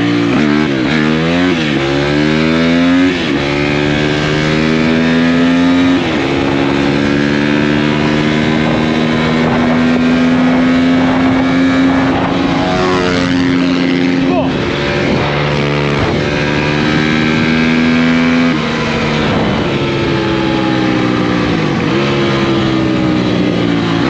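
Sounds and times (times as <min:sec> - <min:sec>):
off-road engine accelerating: 0:00.0 - 0:24.0.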